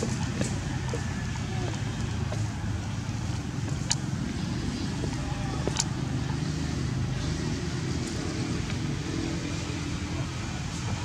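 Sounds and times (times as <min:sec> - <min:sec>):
low rumble of distant traffic: 0:00.0 - 0:11.0.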